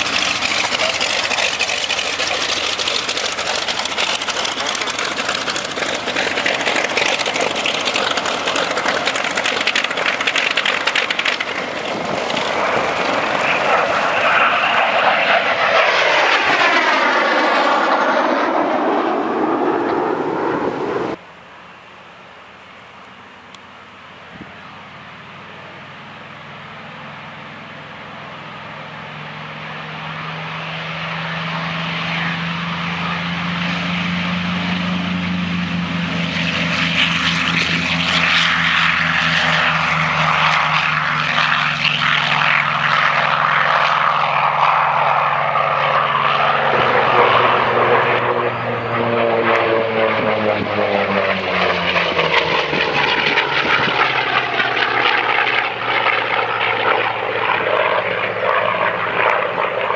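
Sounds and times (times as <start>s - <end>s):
propeller plane engine: 0.0s - 59.9s.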